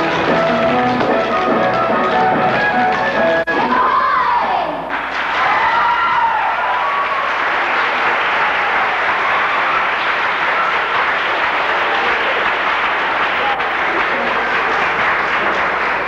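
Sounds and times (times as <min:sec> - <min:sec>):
audience applauding: 0:00.0 - 0:03.4, 0:04.9 - 0:16.0.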